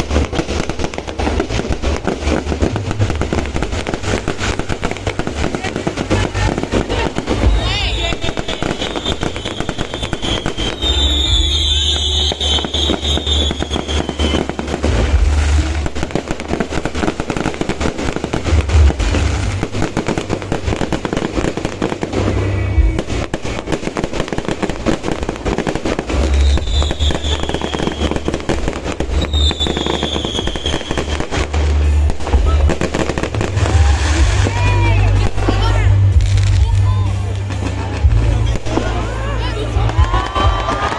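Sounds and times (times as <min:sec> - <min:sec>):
fireworks whistles: 0:00.0 - 0:36.7
fireworks bangs and crackles: 0:00.0 - 0:40.9.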